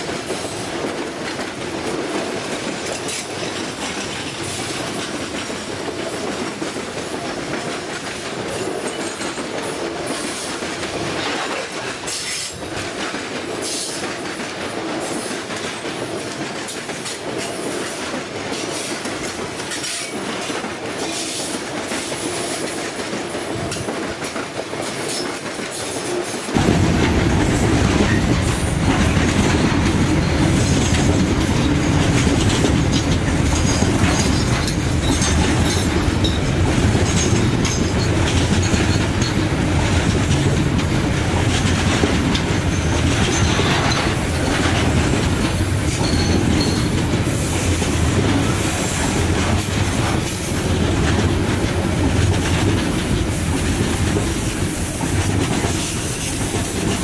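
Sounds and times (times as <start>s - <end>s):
distant freight train rumble: 0.0s - 57.0s
train wheels clattering over rail joints: 0.0s - 57.0s.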